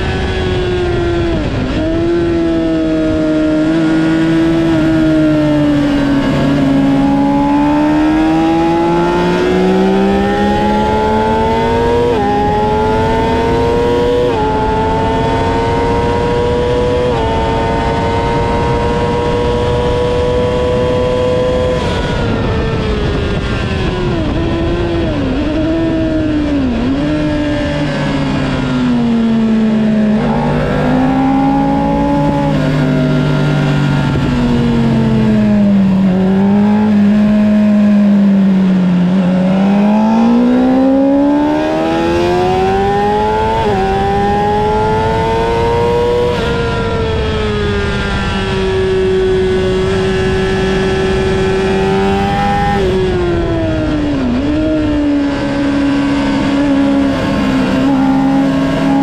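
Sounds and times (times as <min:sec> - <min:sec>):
motorcycle engine accelerating: 0:00.0 - 0:59.0
throttle blips on downshifts: 0:00.1 - 0:59.0.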